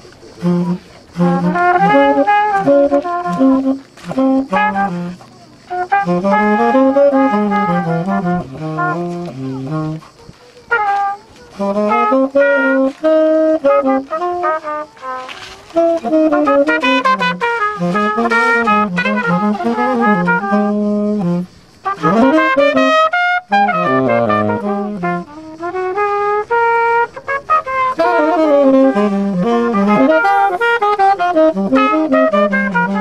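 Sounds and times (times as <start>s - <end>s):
tenor saxophone playing jazz: 0.0s - 33.0s
trumpet playing jazz: 0.0s - 33.0s.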